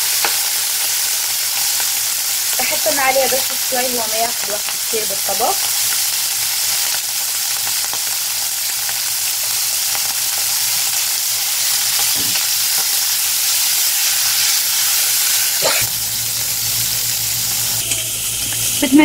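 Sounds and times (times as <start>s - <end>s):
shrimp sizzling in hot oil: 0.0s - 19.0s.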